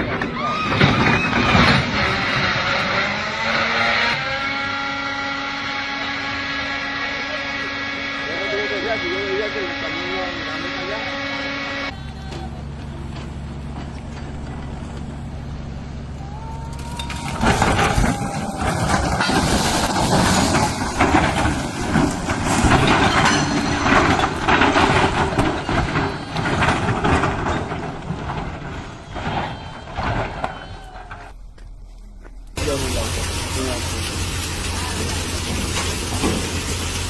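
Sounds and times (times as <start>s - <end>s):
rough rumbling with knocks and clatters: 0.0s - 4.6s, 11.9s - 37.0s
heavy vehicle engine running: 1.3s - 37.0s.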